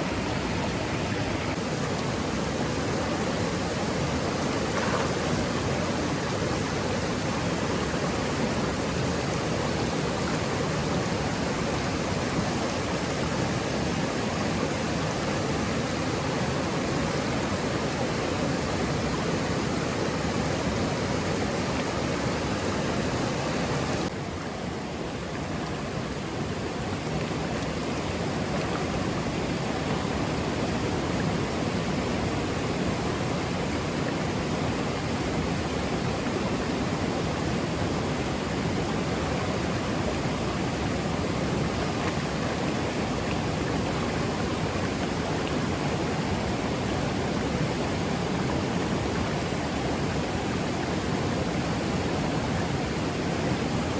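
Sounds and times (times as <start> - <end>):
water rushing: 0.0 - 53.9.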